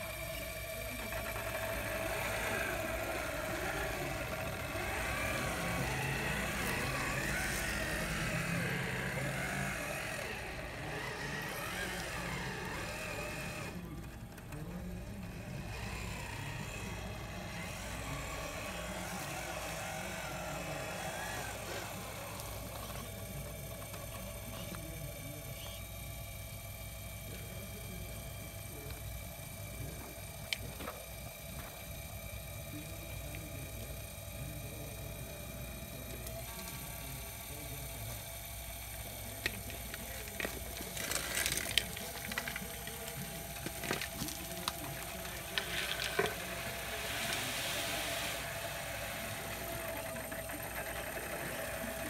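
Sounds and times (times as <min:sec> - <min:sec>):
model truck motor whine: 0:00.0 - 0:52.0.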